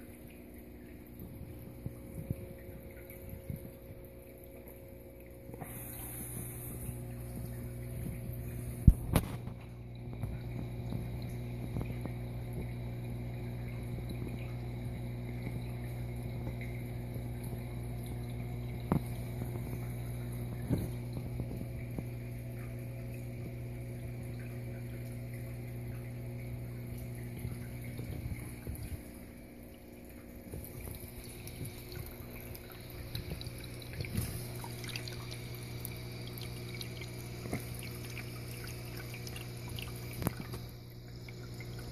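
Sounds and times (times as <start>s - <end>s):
aquarium equipment hum: 0.0s - 41.9s.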